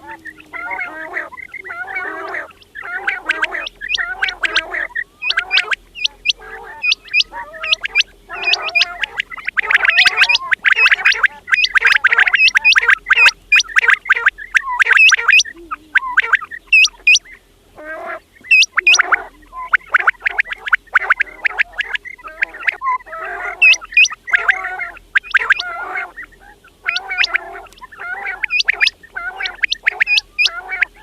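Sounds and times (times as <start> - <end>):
quails calling: 0.0 - 31.0.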